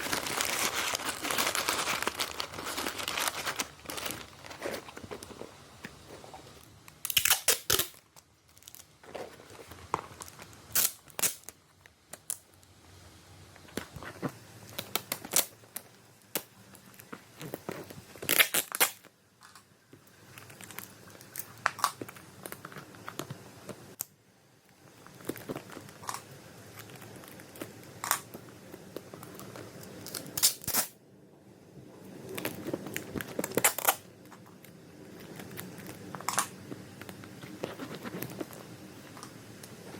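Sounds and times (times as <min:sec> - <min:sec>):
plastic and paper crinkling: 0:00.0 - 0:12.7, 0:13.6 - 0:23.9, 0:24.8 - 0:30.9, 0:32.2 - 0:39.9.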